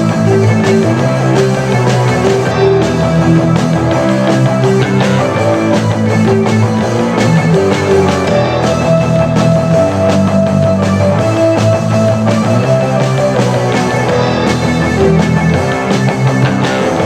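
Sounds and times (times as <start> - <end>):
held keyboard notes: 0.0 - 17.0
rock band playing: 0.0 - 17.0.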